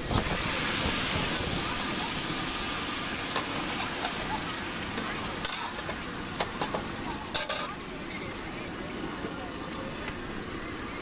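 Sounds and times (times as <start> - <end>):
omelette sizzling on griddle: 0.0 - 11.0.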